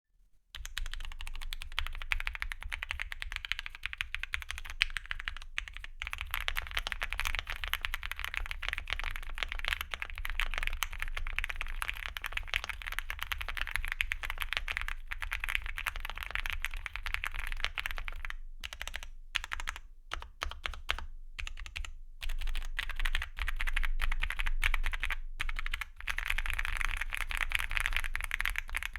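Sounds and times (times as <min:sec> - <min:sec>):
mechanical keyboard typing: 0:00.6 - 0:28.9.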